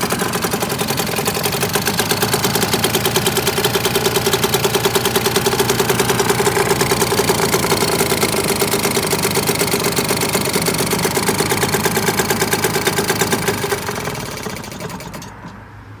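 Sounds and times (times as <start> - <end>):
outboard motor running: 0.0 - 15.5.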